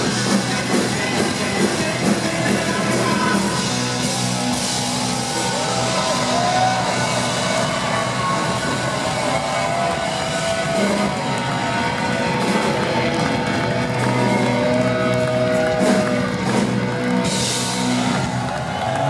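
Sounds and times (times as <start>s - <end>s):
bass guitar: 0.0s - 19.0s
distorted electric guitars: 0.0s - 19.0s
drums: 0.0s - 19.0s.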